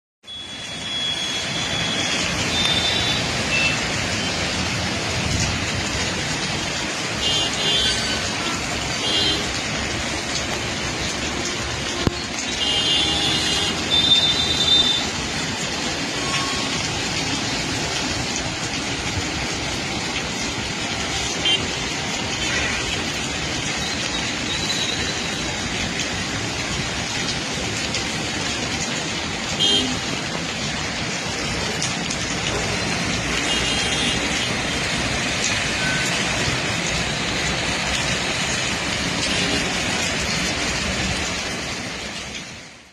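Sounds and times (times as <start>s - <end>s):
highway traffic noise: 0.2s - 42.9s.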